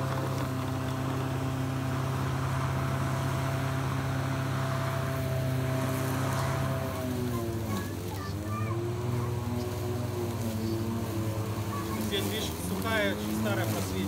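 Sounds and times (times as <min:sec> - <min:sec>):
electric lawn mower humming: 0:00.0 - 0:14.0.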